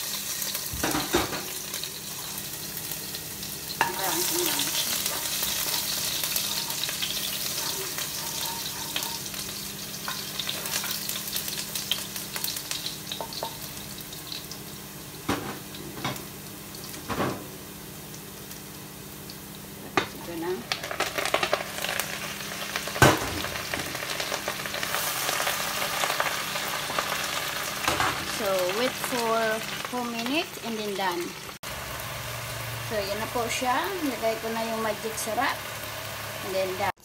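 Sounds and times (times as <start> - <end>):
garlic sizzling in hot oil: 0.0 - 37.0.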